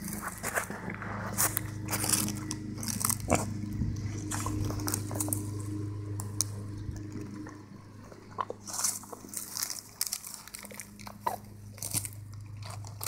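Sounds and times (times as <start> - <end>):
pig chewing grass: 0.0 - 13.0
steady low hum: 0.0 - 13.0.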